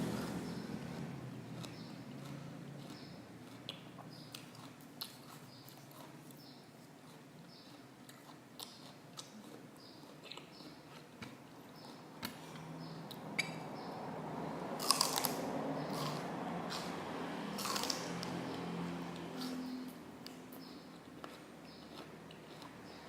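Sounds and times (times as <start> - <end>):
celery being chewed: 0.1 - 13.5, 14.8 - 23.0.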